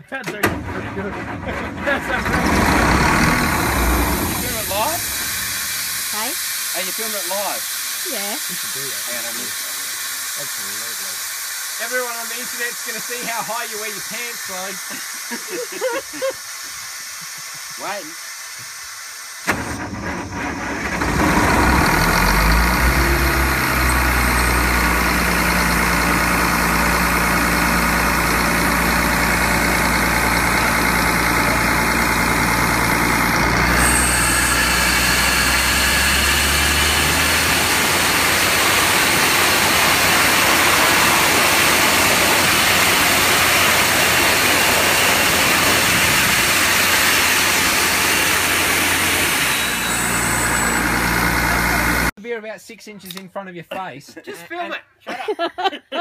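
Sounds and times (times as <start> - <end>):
air compressor running: 0.0 - 52.2
air blowing out: 2.1 - 52.1.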